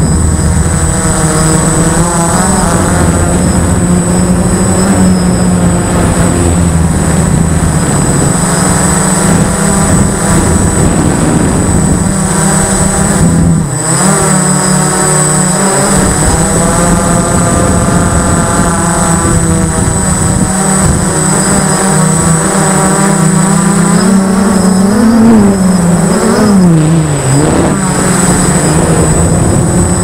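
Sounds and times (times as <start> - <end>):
high propeller whine: 0.0 - 30.0
model aircraft motor droning: 0.0 - 30.0.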